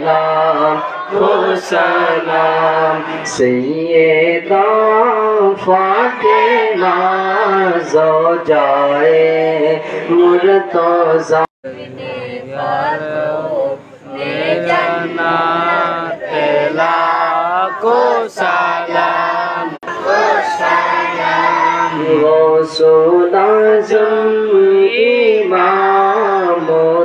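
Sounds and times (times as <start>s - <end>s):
voices singing devotional song: 0.0s - 27.0s.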